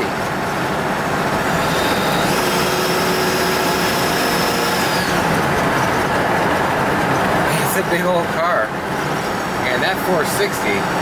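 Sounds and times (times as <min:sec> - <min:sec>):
car cabin road noise: 0:00.0 - 0:11.0.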